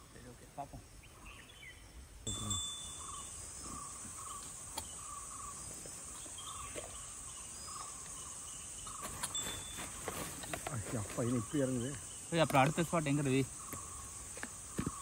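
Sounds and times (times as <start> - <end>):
insects buzzing high-pitched: 0.0 - 15.0
pulsing insect chirp: 0.0 - 15.0.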